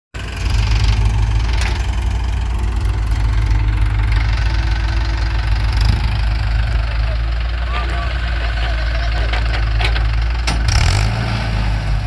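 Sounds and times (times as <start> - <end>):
diesel engine rumbling: 0.1 - 12.0.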